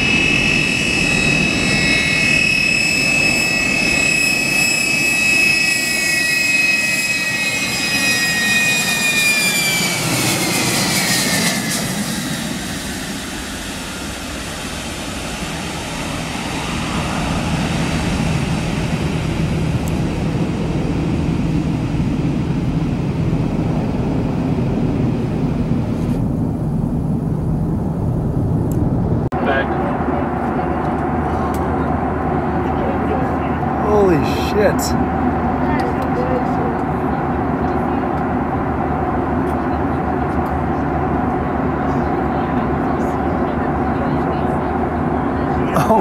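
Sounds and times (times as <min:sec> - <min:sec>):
jet engine whine: 0:00.0 - 0:46.0
low jet rumble: 0:00.0 - 0:46.0.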